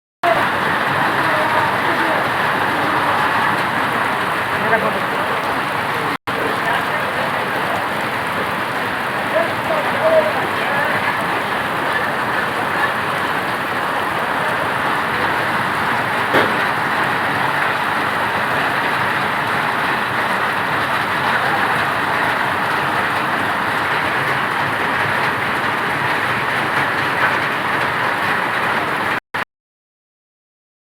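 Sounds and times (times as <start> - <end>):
rain hissing: 0.2 - 29.2.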